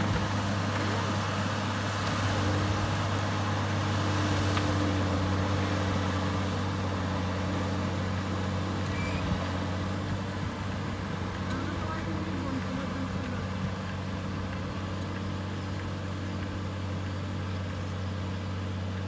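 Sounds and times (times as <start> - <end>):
rotary tiller churning soil: 0.0 - 19.0
tractor engine drone: 0.0 - 19.0.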